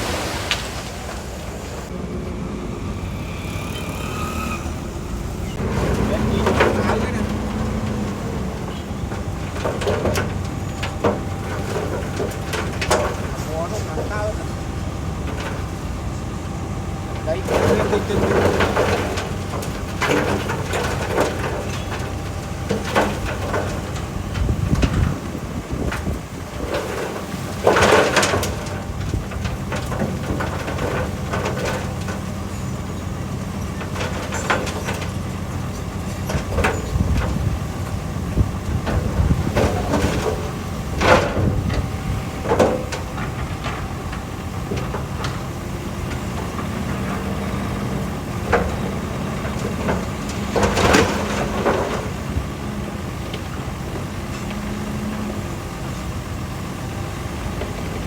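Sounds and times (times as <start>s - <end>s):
bulldozer diesel engine running: 0.0s - 58.0s
metal clanking and scraping on rock: 5.4s - 55.5s.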